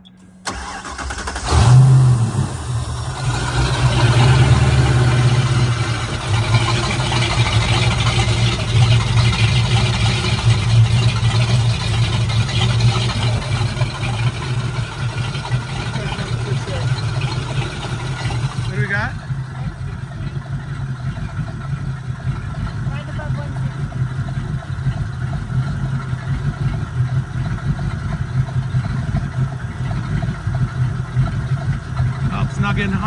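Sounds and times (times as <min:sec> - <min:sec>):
boat engine starting and running: 0:00.0 - 0:33.0.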